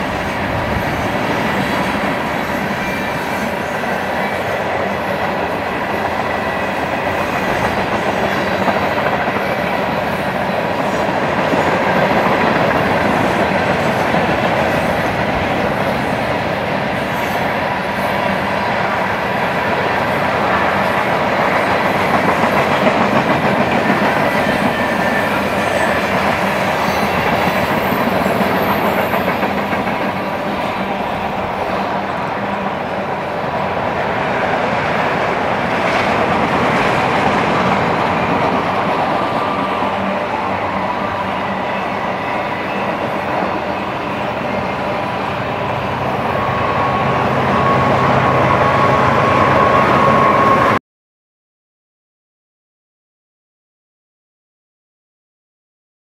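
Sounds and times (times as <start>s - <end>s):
train wheels rumbling on rails: 0.0s - 50.8s.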